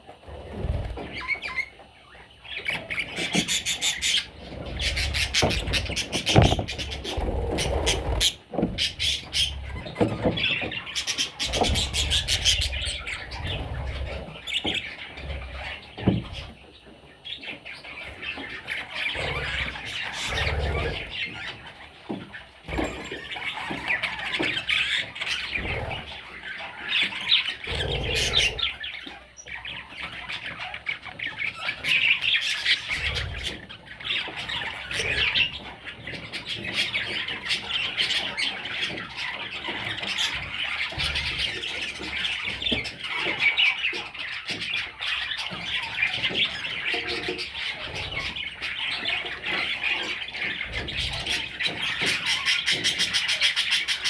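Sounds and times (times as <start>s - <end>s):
budgerigars chattering: 0.5s - 54.0s.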